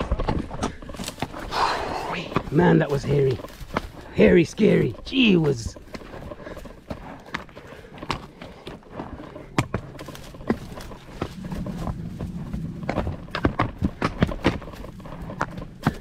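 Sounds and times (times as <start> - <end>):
horse hooves clopping: 0.0 - 16.0.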